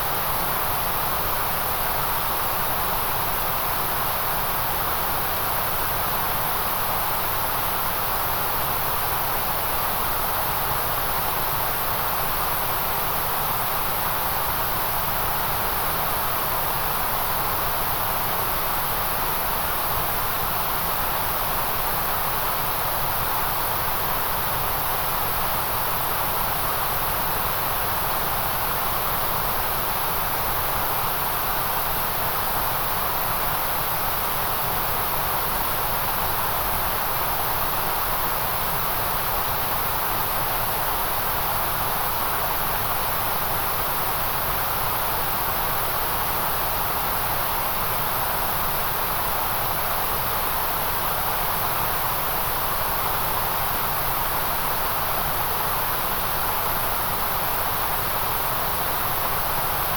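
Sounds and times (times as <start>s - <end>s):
electronic white noise hiss: 0.0s - 59.9s.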